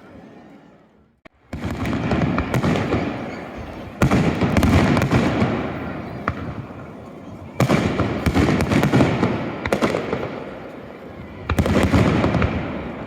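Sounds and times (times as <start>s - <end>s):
fireworks bursting: 1.3s - 13.0s
fireworks crackling: 1.3s - 13.0s.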